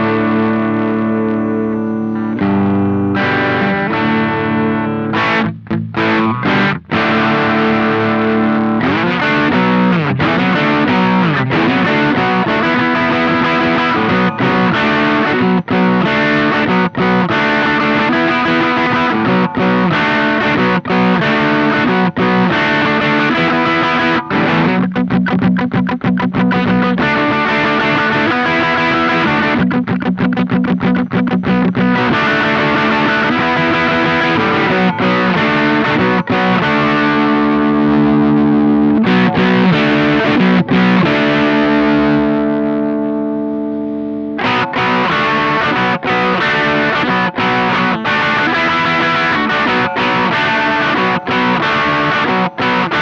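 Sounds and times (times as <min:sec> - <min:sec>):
distorted electric guitar: 0:00.0 - 0:53.0.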